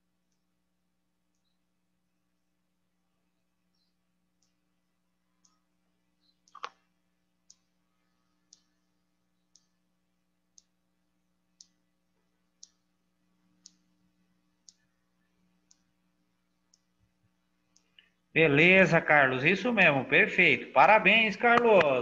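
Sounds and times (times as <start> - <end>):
faint regular ticks: 0.0 - 18.8.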